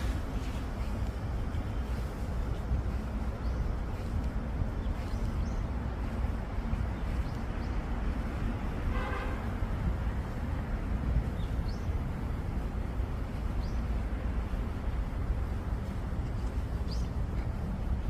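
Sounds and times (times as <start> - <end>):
small birds chirping: 0.0 - 8.9, 9.7 - 18.0
steady low rumble: 0.0 - 18.0.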